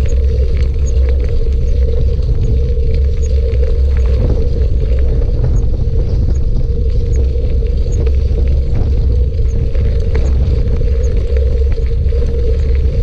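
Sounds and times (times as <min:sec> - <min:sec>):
constant hum: 0:00.0 - 0:13.0
faint evenly spaced ticks: 0:00.0 - 0:13.0
wind rumble on microphone: 0:00.0 - 0:13.0.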